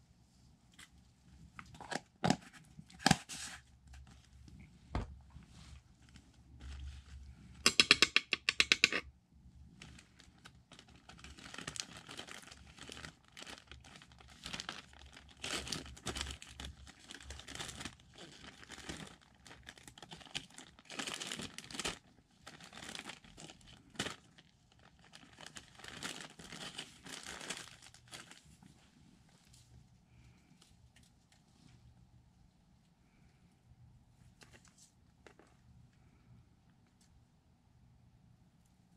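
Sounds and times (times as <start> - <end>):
crinkling and rustling: 0.7 - 8.0, 9.7 - 32.0, 34.2 - 36.2.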